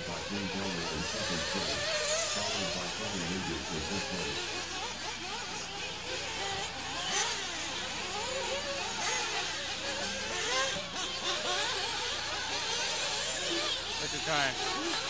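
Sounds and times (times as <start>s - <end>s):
rc buggy engines revving: 0.0s - 15.0s.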